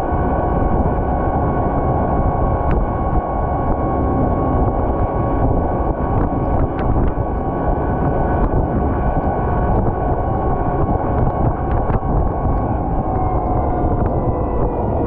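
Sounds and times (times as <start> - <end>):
diesel engine running: 0.0 - 15.0
engine whine: 0.0 - 15.0.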